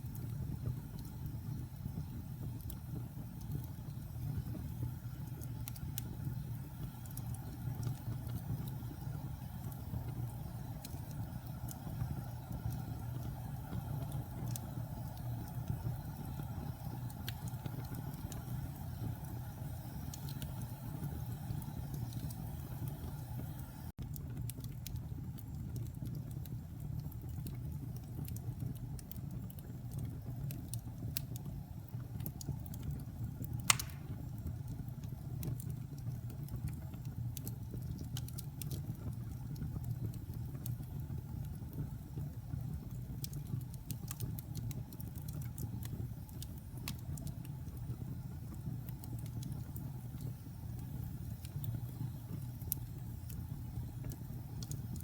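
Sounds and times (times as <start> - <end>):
fire crackling: 0.0 - 55.0
fire popping: 0.0 - 55.0.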